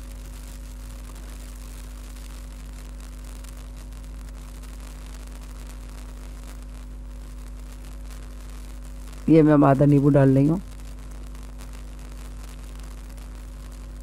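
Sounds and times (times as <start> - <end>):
background hiss: 0.0 - 14.0
electrical mains hum: 0.0 - 14.0.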